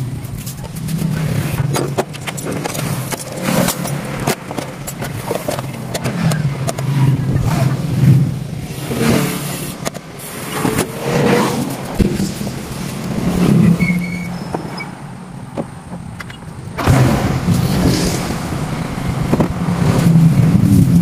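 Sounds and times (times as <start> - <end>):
petrol engine running: 0.0 - 21.0.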